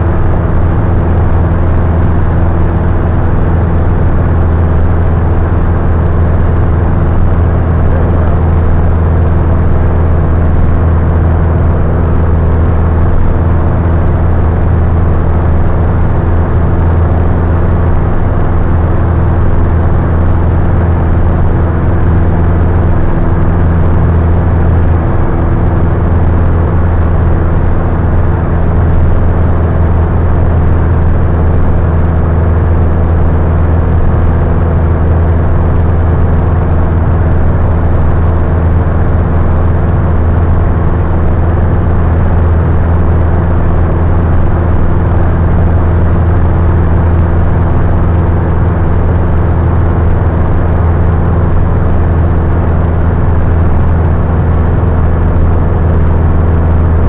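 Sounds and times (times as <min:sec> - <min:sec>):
light aircraft engine drone in cabin: 0:00.0 - 0:57.0.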